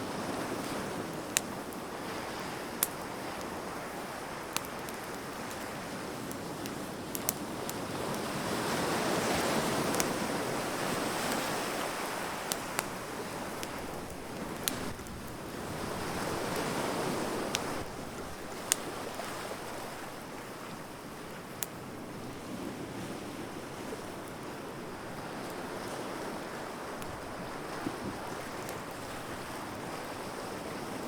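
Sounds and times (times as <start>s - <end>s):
wood fire crackling: 0.0s - 22.4s, 23.5s - 31.0s.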